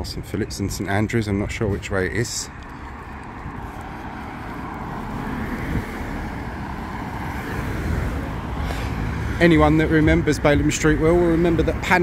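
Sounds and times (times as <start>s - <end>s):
car approaching: 0.0s - 12.0s.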